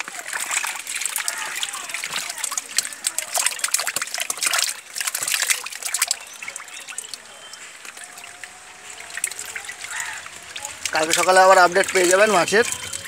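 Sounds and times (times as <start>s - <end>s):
fish thrashing: 0.0s - 13.0s
water splashing: 0.0s - 13.0s
water trickling and dripping: 0.0s - 13.0s.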